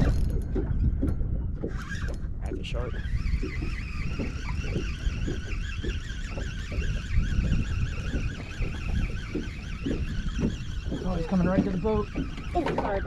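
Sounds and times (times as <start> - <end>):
low wind rumble: 0.0 - 13.0
fishing reel whining: 1.6 - 13.0.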